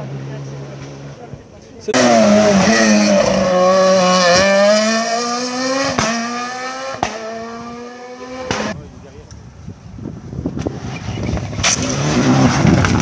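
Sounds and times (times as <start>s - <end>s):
rally car engine passing: 0.0s - 8.8s, 10.7s - 13.0s.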